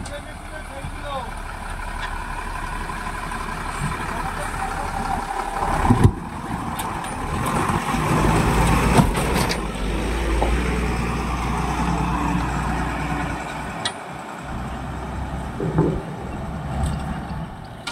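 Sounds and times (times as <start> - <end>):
diesel truck engine running: 0.0 - 17.9.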